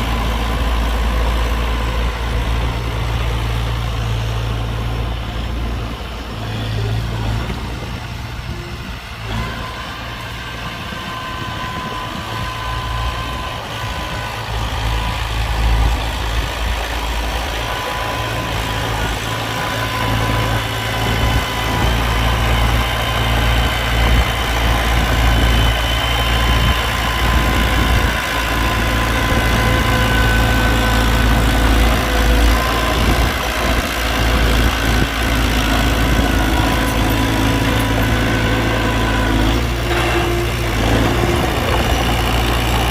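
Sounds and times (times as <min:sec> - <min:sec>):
heavy diesel engine rumbling: 0:00.0 - 0:42.9
thin whining tones: 0:08.4 - 0:42.9.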